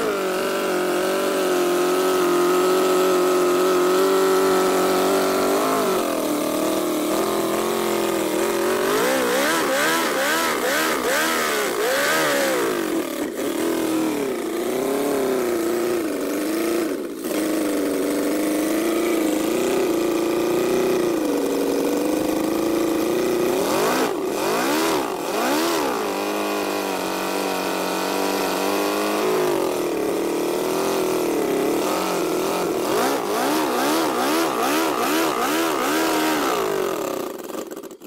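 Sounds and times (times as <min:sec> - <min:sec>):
model engine revving: 0:00.0 - 0:38.0.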